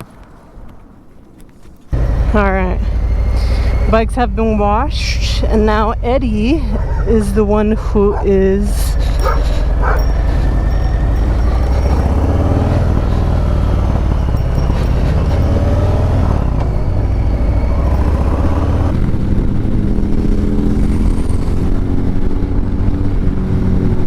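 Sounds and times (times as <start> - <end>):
motorcycle engine running: 1.9 - 24.0.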